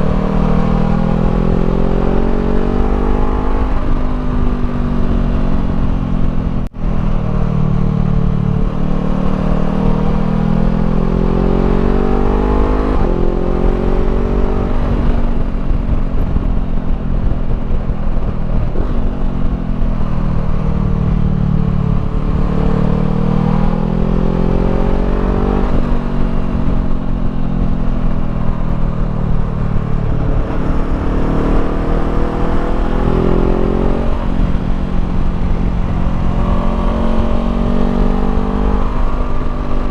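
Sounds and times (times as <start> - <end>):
motorcycle engine revving: 0.0 - 39.9
wind rumble: 0.0 - 39.9.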